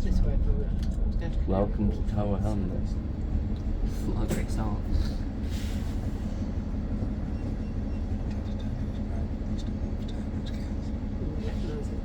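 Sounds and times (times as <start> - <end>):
bus tyre and running noise: 0.0 - 12.0.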